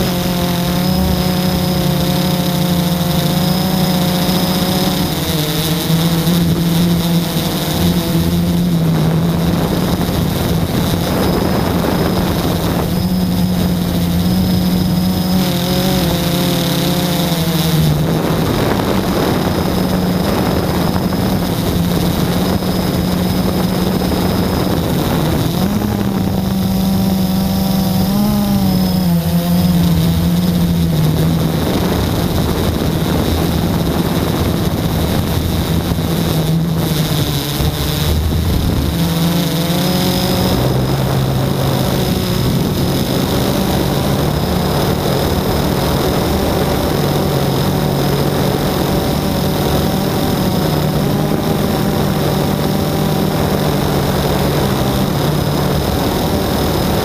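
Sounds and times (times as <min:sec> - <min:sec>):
quadcopter motors droning: 0:00.0 - 0:57.0
rushing air noise: 0:00.0 - 0:57.0.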